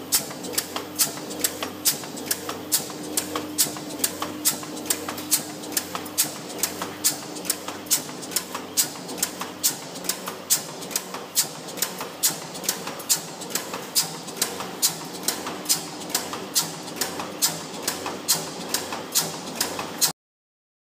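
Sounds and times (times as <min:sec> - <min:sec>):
stamping press metallic clacks: 0:00.1 - 0:20.1.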